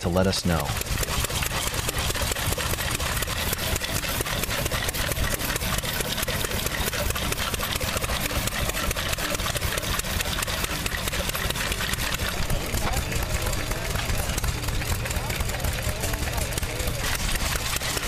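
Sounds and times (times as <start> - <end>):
gas engine running: 0.0 - 18.0
saw blade cutting log: 0.1 - 18.0.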